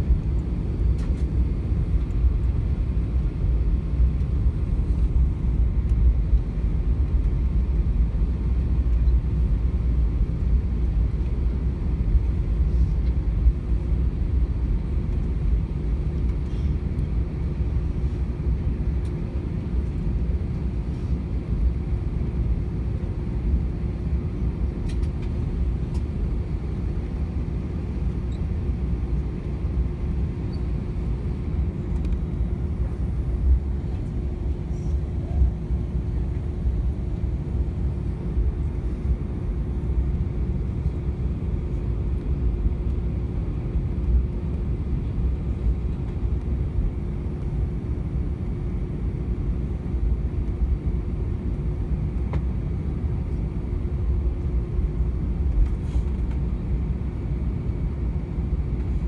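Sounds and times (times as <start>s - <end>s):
aircraft engines rumbling at idle: 0.0s - 59.0s
constant hum: 0.0s - 59.0s.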